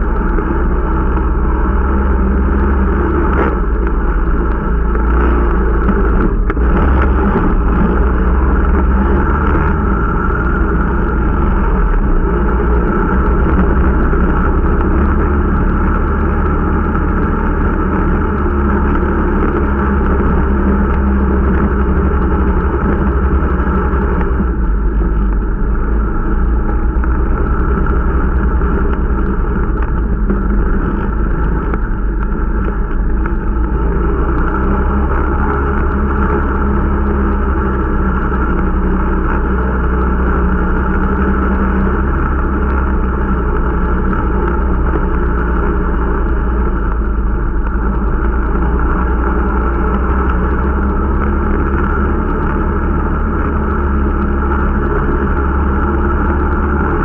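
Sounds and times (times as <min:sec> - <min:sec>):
snowmobile engine droning: 0:00.0 - 0:57.0.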